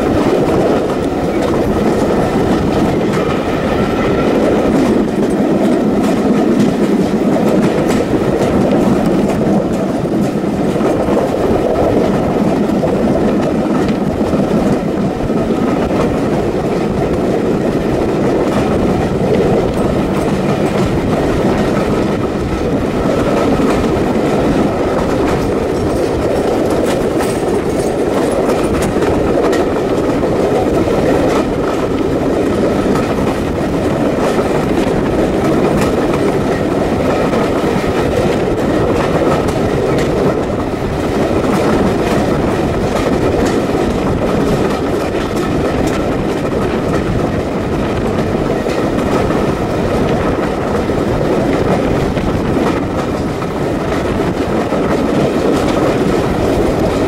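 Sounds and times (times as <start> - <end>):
train carriages rumbling: 0.0 - 57.0
wheels clicking over rail joints: 0.0 - 57.0.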